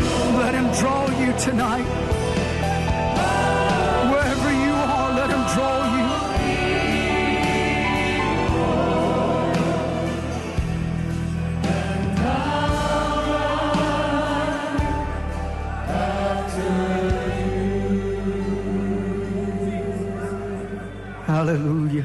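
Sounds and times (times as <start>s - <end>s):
choir and congregation singing: 0.0s - 21.3s
sustained bass chords: 0.0s - 22.0s.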